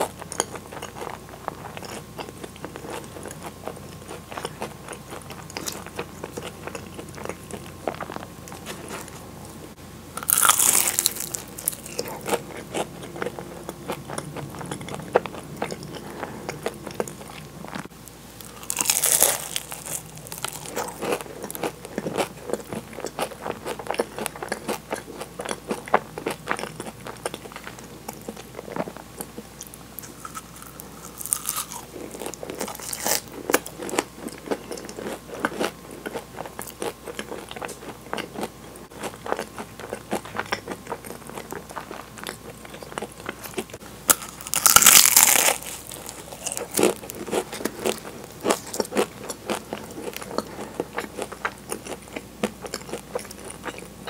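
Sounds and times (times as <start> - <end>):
pastry crunching when bitten: 10.2 - 53.9.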